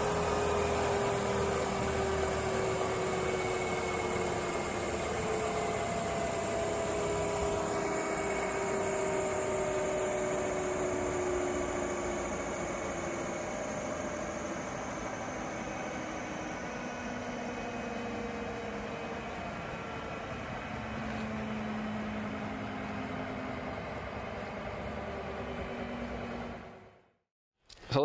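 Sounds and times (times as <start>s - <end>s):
electric motor whine: 0.0s - 26.8s
helicopter rotor noise: 0.0s - 27.0s.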